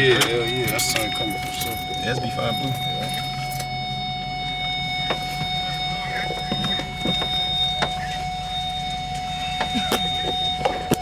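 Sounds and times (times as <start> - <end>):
car engine idling: 0.0 - 11.0
thin high whine: 0.0 - 11.0.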